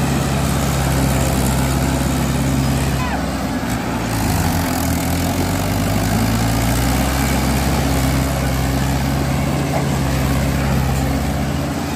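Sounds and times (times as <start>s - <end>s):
tractor diesel engines under load: 0.0s - 11.9s.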